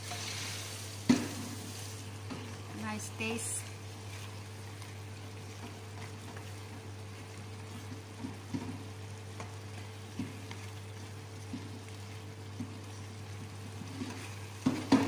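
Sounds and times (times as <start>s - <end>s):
eggplant sizzling in a pan: 0.0s - 15.0s
steady low hum: 0.0s - 15.0s.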